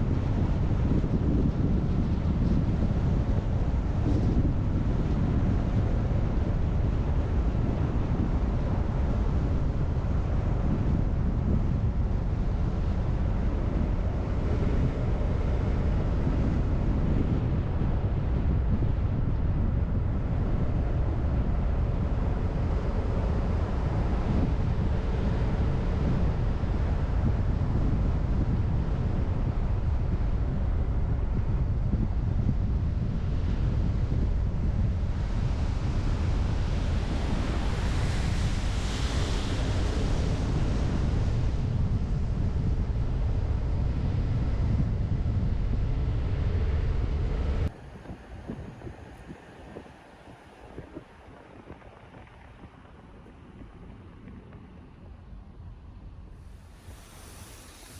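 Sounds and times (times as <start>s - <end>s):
car road and engine rumble: 0.0s - 57.9s
wind buffeting: 0.0s - 57.9s.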